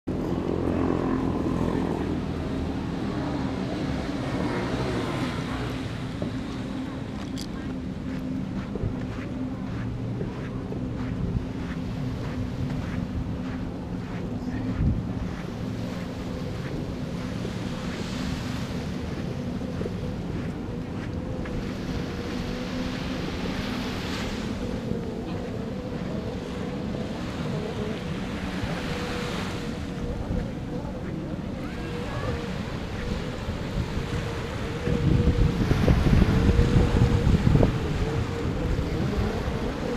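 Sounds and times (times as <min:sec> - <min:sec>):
motorboat engine droning: 0:00.0 - 0:39.9
small waves washing onto sand: 0:00.1 - 0:39.9
wind buffeting microphone: 0:00.1 - 0:39.9.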